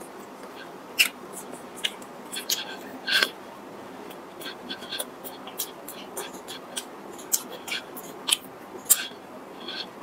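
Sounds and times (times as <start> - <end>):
low steady hiss: 0.0 - 10.0
wet chewing and lip smacks: 0.4 - 3.4, 4.1 - 9.9.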